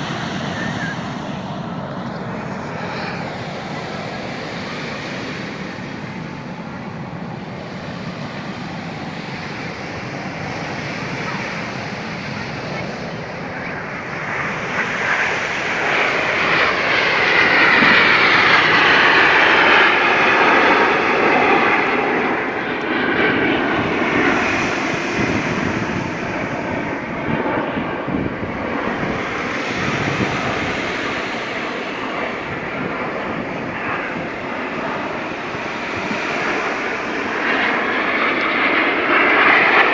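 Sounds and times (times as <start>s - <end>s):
jets flying past: 0.0s - 39.9s.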